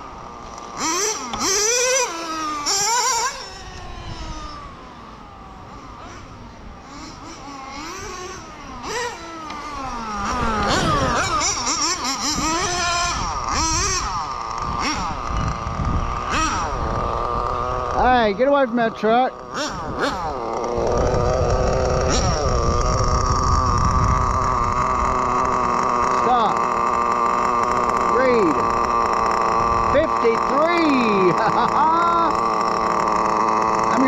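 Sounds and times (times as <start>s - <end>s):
model car engine revving: 0.0s - 34.0s.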